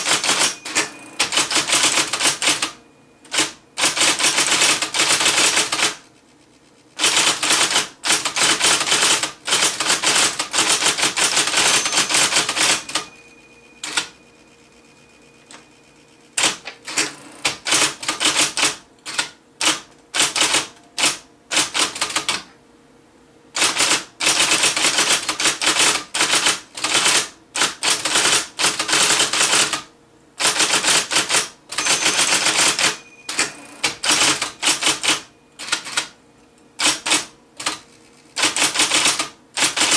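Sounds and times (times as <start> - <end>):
electric typewriter typing: 0.0 - 6.1, 7.0 - 14.2, 16.4 - 22.5, 23.6 - 36.2, 36.8 - 39.9
typewriter motor hum: 0.0 - 6.1, 6.7 - 13.1, 16.3 - 22.4, 23.6 - 36.2, 36.8 - 39.9.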